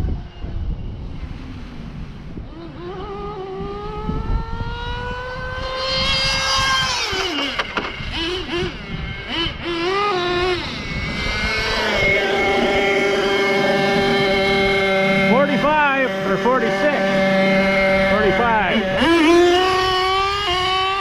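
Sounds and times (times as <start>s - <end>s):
small engine high-pitched whine: 0.0s - 21.0s.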